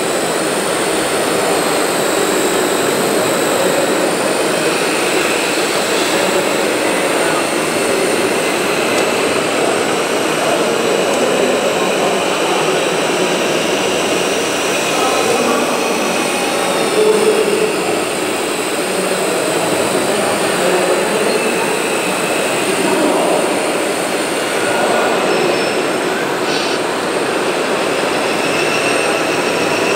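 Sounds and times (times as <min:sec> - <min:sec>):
hydraulic pump whine and hiss: 0:00.0 - 0:29.9.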